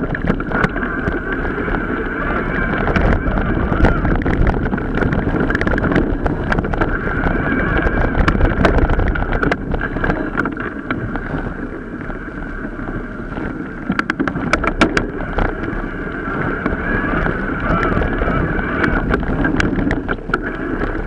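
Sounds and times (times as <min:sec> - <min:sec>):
bike rattling and clicking: 0:00.0 - 0:21.0
wind rushing over microphone: 0:00.0 - 0:21.0.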